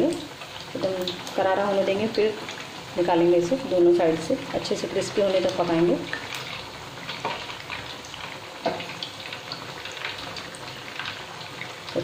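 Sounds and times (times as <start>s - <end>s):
cutlets deep-frying in oil: 0.0s - 12.0s.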